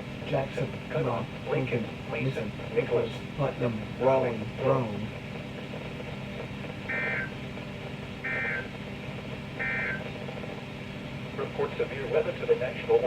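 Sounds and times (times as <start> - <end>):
radio background noise: 0.2 - 13.0.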